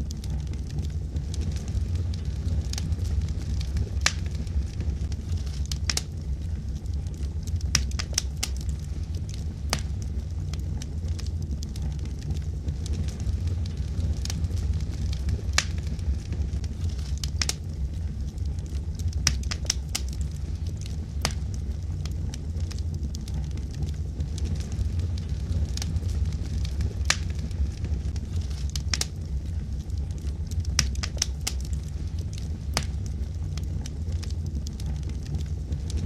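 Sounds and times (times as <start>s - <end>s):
fire crackling and popping: 0.0s - 36.0s
fire low rumble: 0.0s - 36.0s.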